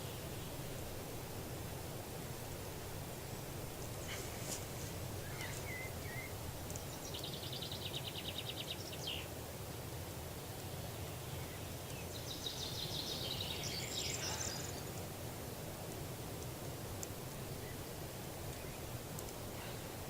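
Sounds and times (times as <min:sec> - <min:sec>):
songbirds singing: 0:00.0 - 0:09.3, 0:10.4 - 0:20.0.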